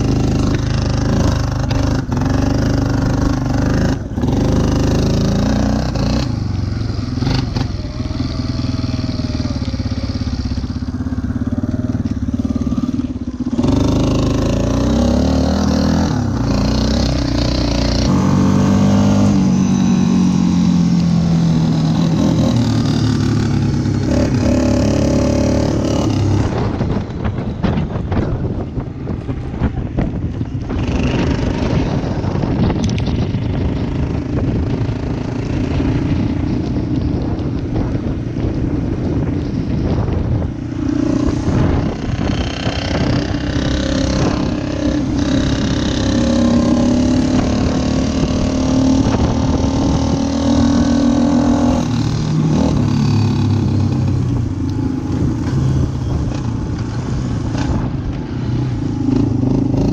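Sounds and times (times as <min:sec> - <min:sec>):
atv engine running: 0:00.0 - 0:59.9
wind noise: 0:00.0 - 0:59.9.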